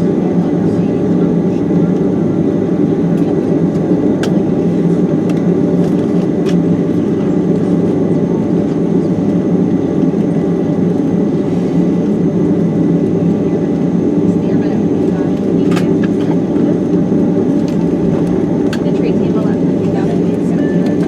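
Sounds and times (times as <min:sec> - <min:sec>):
jet engine and airflow noise: 0:00.0 - 0:21.0.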